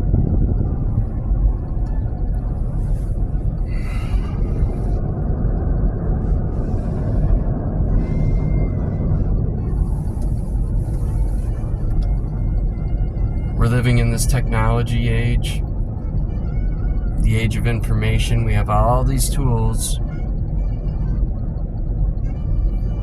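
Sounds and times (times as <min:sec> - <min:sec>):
road and tyre rumble in car: 0:00.0 - 0:23.0.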